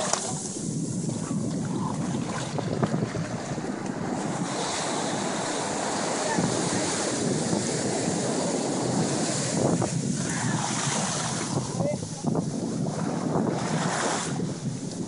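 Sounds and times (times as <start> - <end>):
ocean surf washing up beach: 0.0 - 15.0
wind noise on microphone: 0.0 - 15.0.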